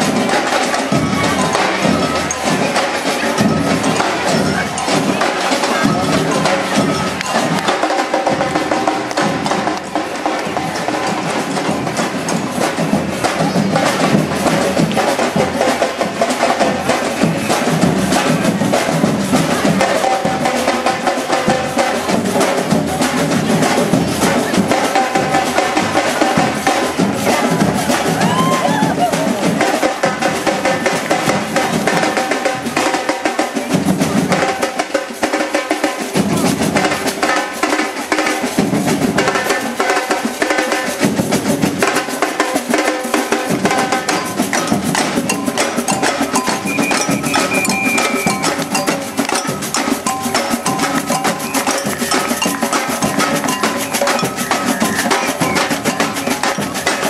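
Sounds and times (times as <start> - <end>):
marching drums playing: 0.0 - 57.0.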